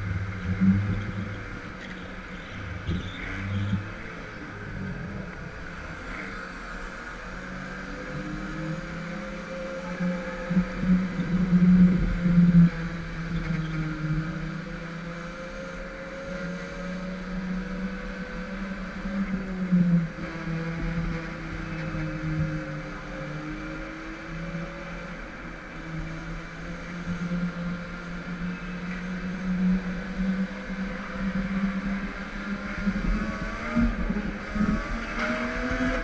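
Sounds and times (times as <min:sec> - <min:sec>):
go-kart motor racing: 0:00.0 - 0:36.0.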